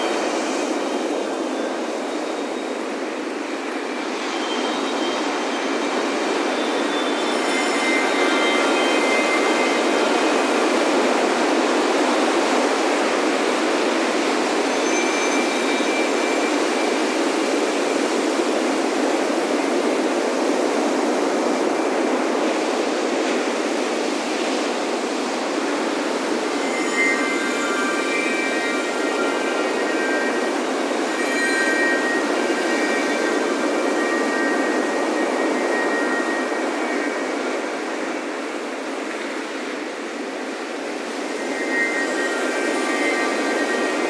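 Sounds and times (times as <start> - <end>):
wind chimes ringing: 0.0 - 22.1, 25.5 - 44.0.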